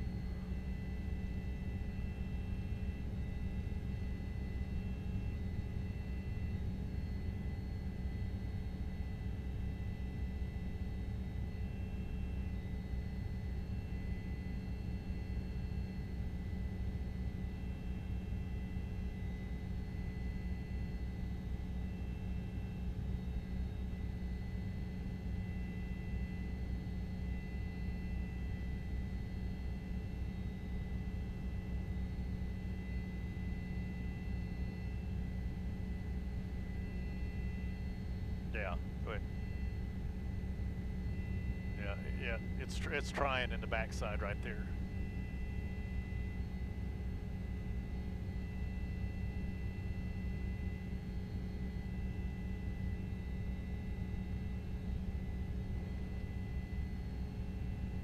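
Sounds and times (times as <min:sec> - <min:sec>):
faint whining tones: 0:00.0 - 0:58.0.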